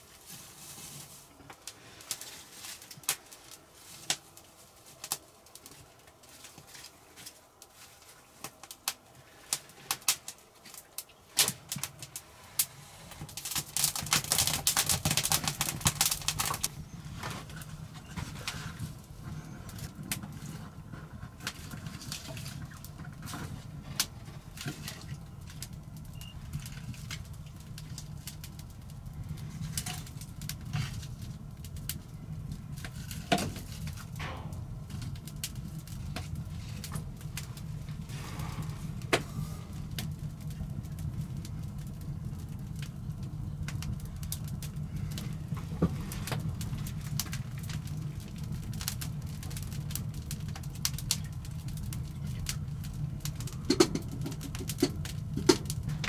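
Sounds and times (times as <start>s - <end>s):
fire flaring with rushing roar: 0.0s - 56.0s
wood fire crackling: 0.0s - 56.0s.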